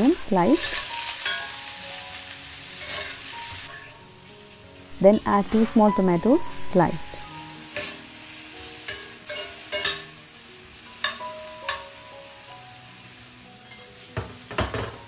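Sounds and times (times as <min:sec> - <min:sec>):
onions and tomatoes sizzling in a pan: 0:00.0 - 0:15.0.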